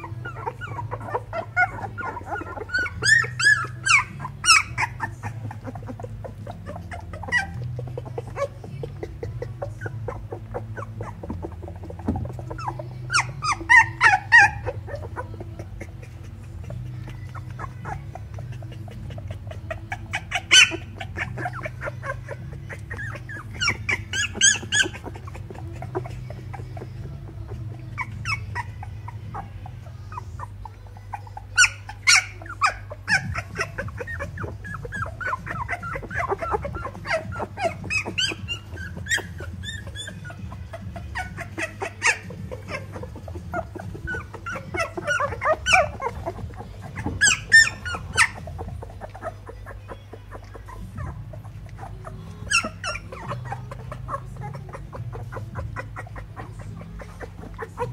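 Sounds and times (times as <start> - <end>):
puppies whimpering and squeaking: 0.0 - 57.9.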